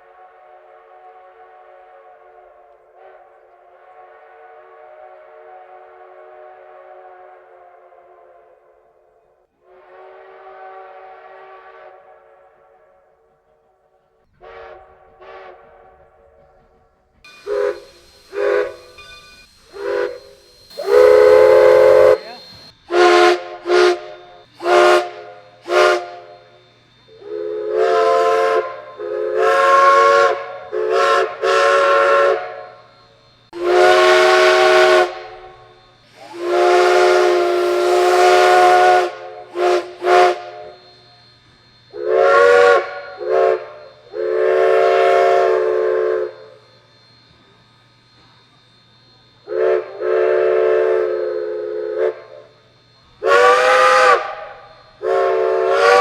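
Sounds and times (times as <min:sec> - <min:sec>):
steam locomotive chime whistle: 0:00.0 - 0:56.0
steam hissing: 0:09.6 - 0:56.0.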